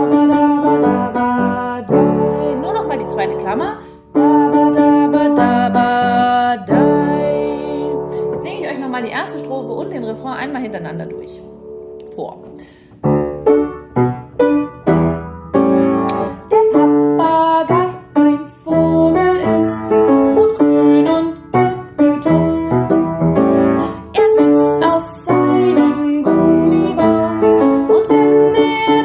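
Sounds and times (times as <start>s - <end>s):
piano playing children's song: 0.0s - 29.0s.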